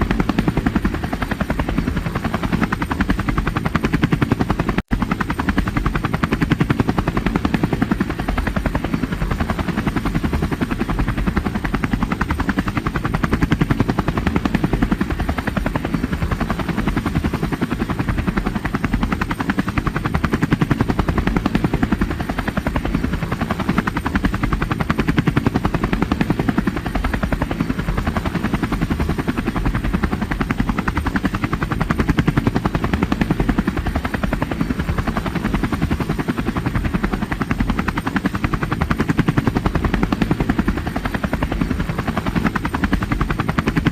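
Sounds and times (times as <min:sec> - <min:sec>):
helicopter engine noise: 0:00.0 - 0:43.9
helicopter rotor chop: 0:00.0 - 0:43.9.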